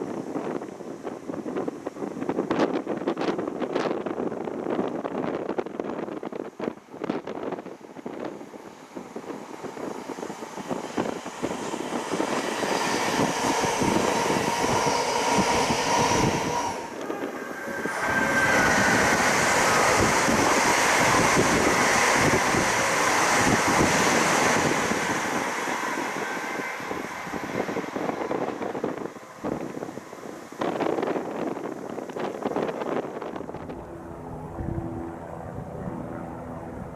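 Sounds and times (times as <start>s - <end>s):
train passing at speed: 0.0s - 36.9s.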